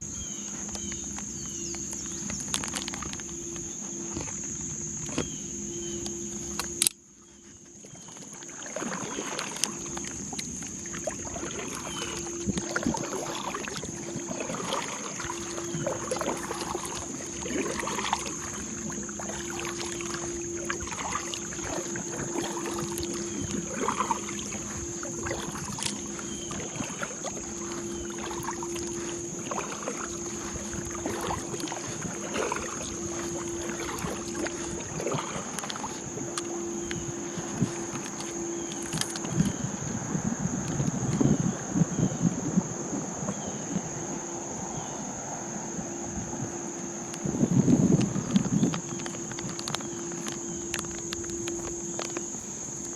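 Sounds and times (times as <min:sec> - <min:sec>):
high-pitched whine: 0:00.0 - 0:52.9
paddle splashing in water: 0:00.0 - 0:52.9.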